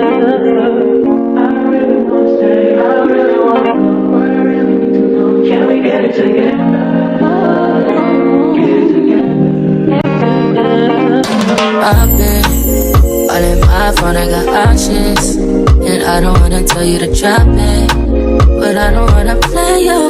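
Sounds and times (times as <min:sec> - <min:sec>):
held keyboard chords: 0:00.0 - 0:20.0
person singing melody: 0:00.0 - 0:20.0.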